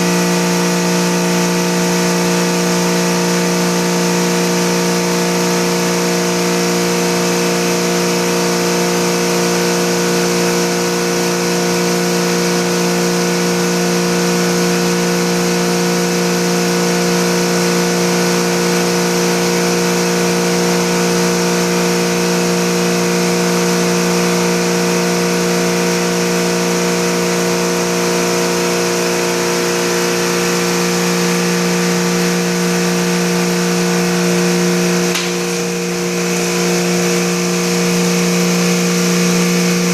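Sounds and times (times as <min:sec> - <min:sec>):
cleaning machine motor hum: 0:00.0 - 0:39.9.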